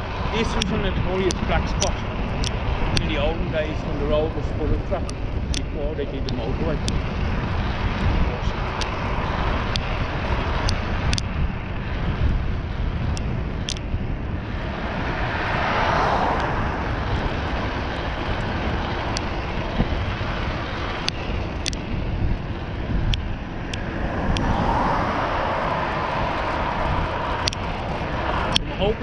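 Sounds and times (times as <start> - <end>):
bicycle road noise: 0.0 - 29.0
bike clicks and rattles: 0.0 - 29.0
wind rushing over microphone: 0.0 - 29.0.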